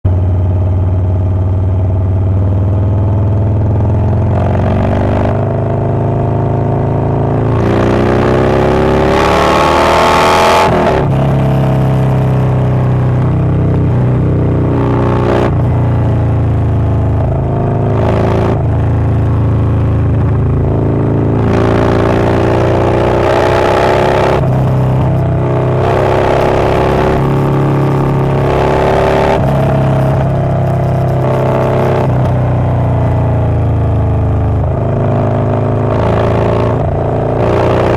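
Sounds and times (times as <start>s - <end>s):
motorcycle engine revving: 0.1s - 37.9s.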